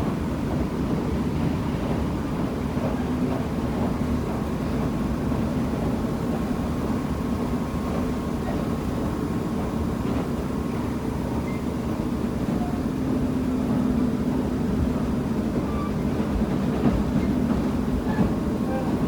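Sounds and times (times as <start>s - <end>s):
diesel railcar rumbling: 0.0s - 19.0s.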